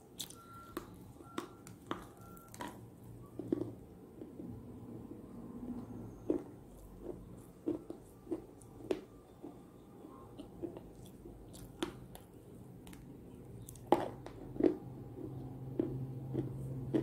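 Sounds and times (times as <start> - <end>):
crunchy cookie chewing: 0.0 - 4.8, 5.7 - 17.0.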